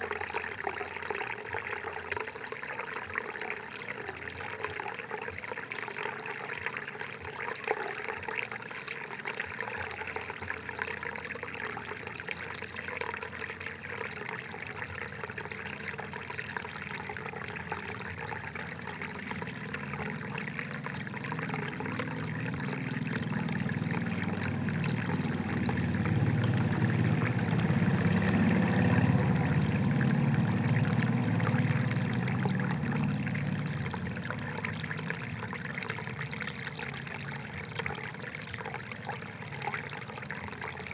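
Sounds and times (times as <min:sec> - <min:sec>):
low rush of water: 0:00.0 - 0:40.9
water trickling and gurgling: 0:00.0 - 0:40.9.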